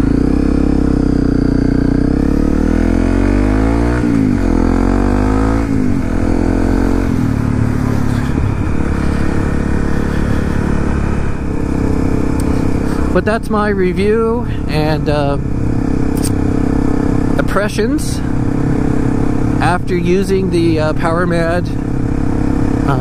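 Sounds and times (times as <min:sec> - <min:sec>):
motorcycle engine shifting up: 0:00.0 - 0:23.0.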